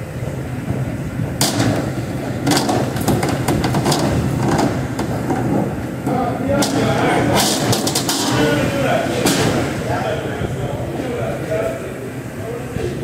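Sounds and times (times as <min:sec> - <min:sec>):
exhaust fan hum: 0:00.0 - 0:13.0.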